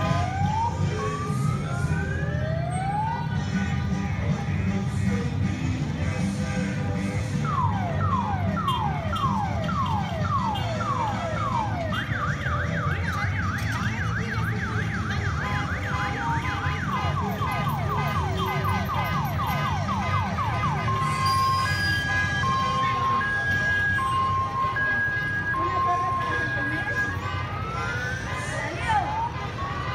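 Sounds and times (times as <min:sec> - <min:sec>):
ambulance siren: 0:00.0 - 0:29.9
low rumble of vehicle engines: 0:00.0 - 0:29.9.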